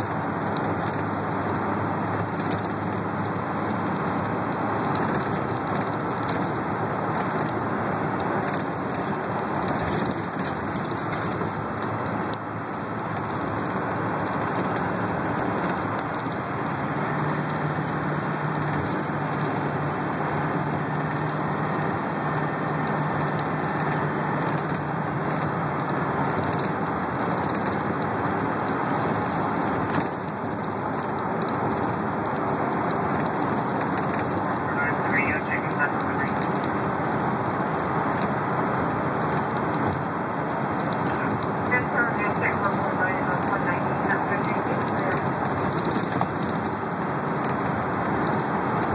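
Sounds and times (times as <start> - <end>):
bus engine and tyre drone: 0.0 - 48.9.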